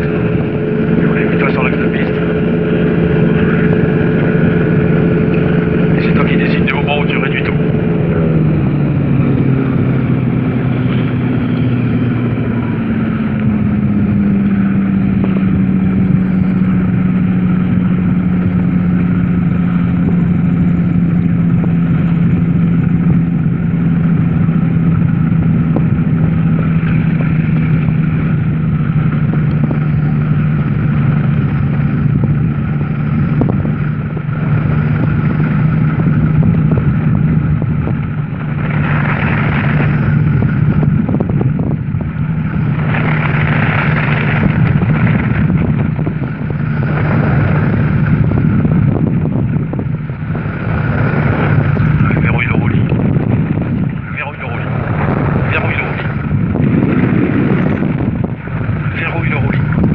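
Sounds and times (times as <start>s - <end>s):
microlight engine and propeller droning: 0.0s - 59.9s.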